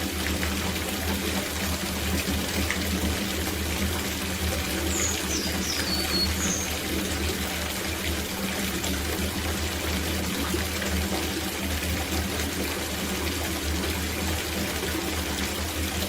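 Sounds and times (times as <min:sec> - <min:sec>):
water running into a bathtub: 0:00.0 - 0:16.0.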